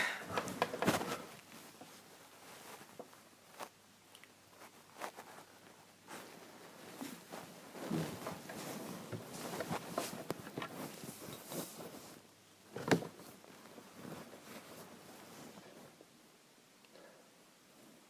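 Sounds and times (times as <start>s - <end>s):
rustling and clicks of handling: 0.2s - 16.0s.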